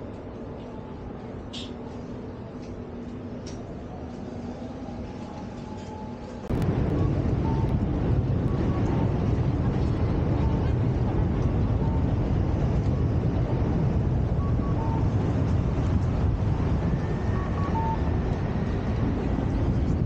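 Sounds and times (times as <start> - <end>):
low traffic rumble: 0.0 - 20.0.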